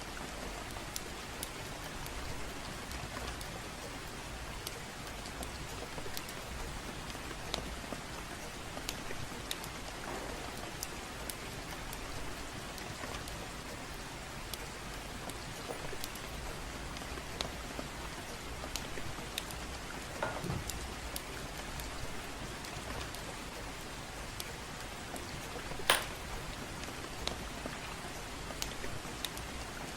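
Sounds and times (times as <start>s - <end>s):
gentle rain falling: 0.0s - 29.9s
wood fire crackling: 0.2s - 29.9s.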